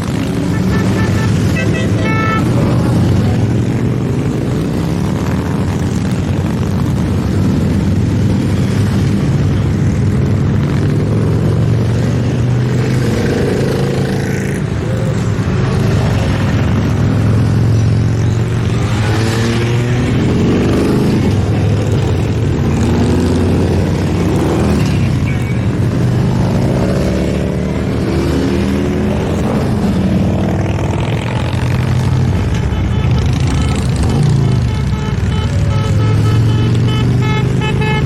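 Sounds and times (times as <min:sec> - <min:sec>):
motorcycles riding past: 0:00.0 - 0:38.0.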